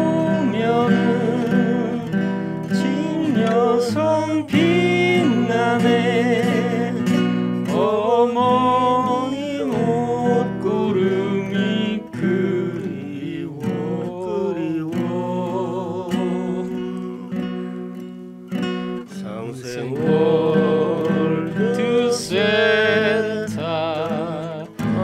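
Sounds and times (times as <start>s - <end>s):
man singing with vibrato: 0.0s - 18.0s, 19.1s - 25.0s
strummed acoustic guitar: 0.0s - 25.0s.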